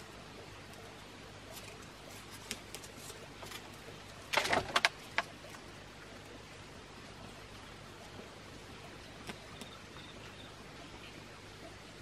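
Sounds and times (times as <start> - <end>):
quiet forest ambience: 0.0 - 12.0.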